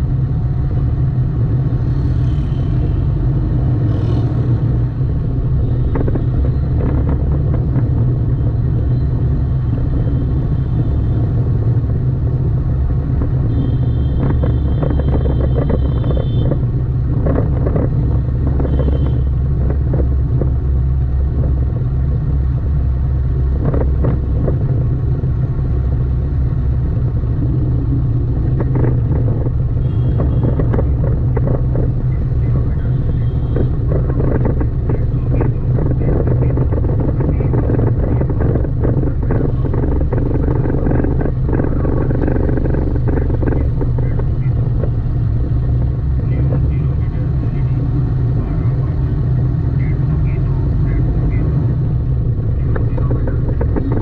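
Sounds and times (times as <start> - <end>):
car driving in traffic: 0.0 - 54.0
vehicles passing: 0.0 - 54.0.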